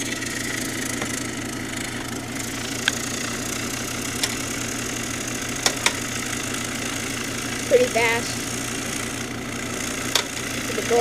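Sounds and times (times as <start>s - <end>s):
fidget spinner whirring: 0.0s - 11.0s.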